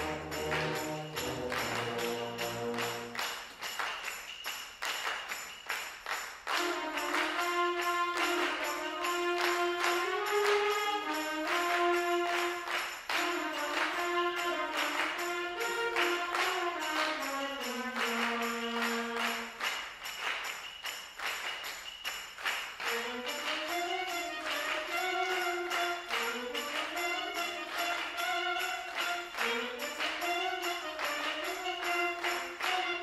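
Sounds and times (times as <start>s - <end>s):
percussion strokes: 0.0s - 33.0s.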